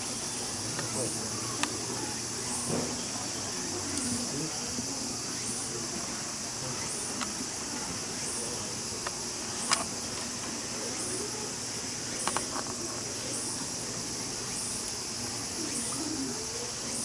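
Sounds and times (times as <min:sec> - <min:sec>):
pulsing insect chorus: 0:00.0 - 0:17.0.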